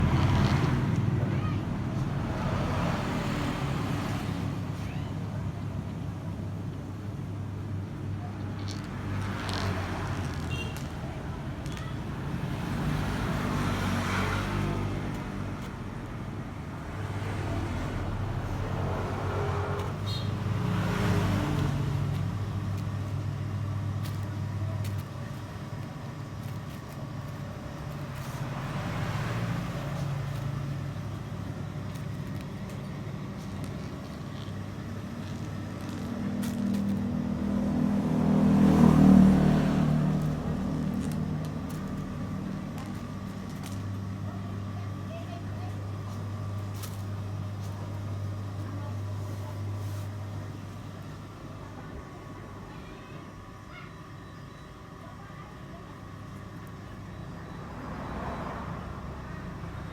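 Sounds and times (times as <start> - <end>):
road traffic engine hum: 0.0 - 59.9
vehicles passing: 0.0 - 59.9.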